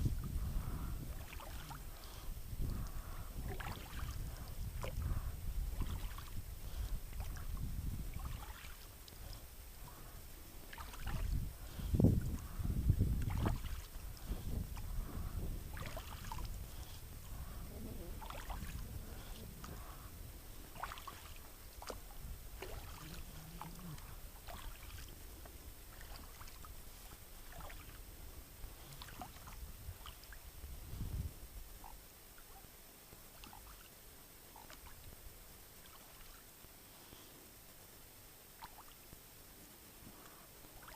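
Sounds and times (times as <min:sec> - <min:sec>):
paddle splashes and drips: 0:01.0 - 0:30.7, 0:31.8 - 0:36.9, 0:38.4 - 0:39.3, 0:40.1 - 0:40.9.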